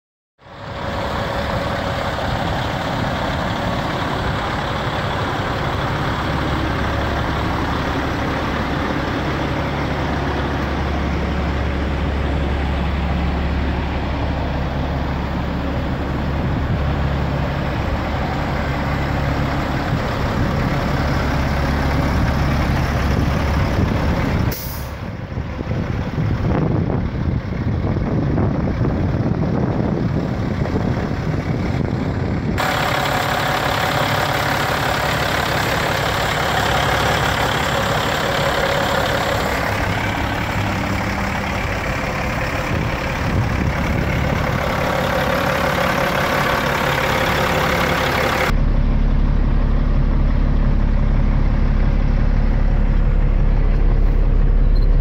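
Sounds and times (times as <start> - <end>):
diesel engine idling: 0.4 - 55.0.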